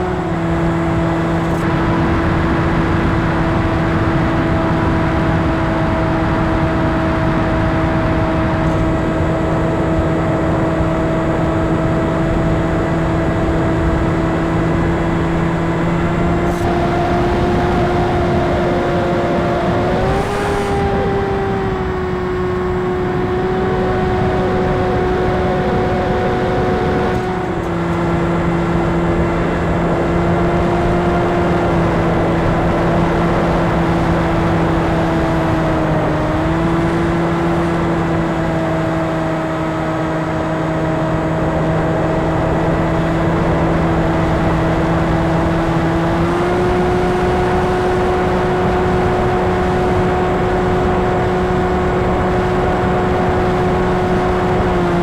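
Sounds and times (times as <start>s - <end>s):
electric motor whine: 0.0s - 55.0s.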